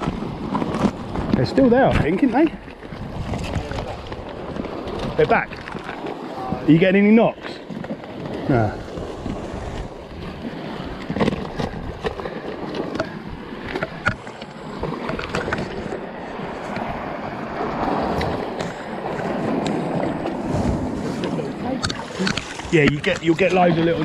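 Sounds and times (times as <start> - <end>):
sea water sloshing against rocks: 0.0 - 24.0.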